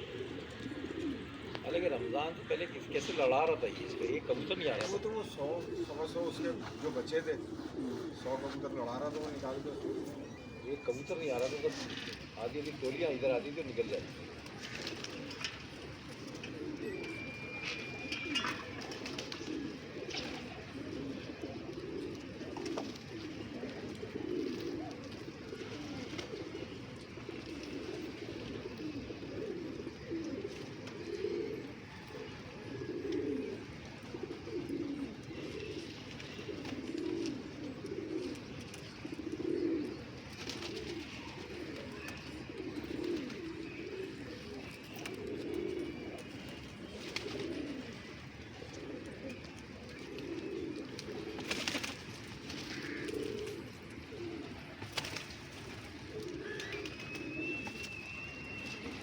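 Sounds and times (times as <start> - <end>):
pigeons cooing: 0.0 - 59.0.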